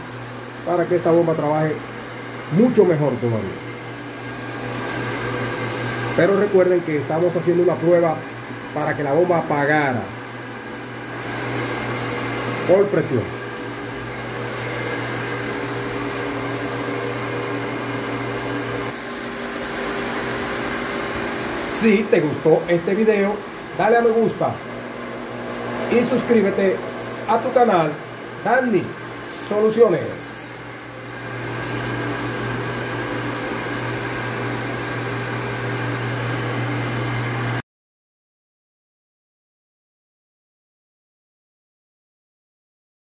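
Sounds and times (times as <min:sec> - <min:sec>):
electric water pump humming: 0:00.0 - 0:37.6.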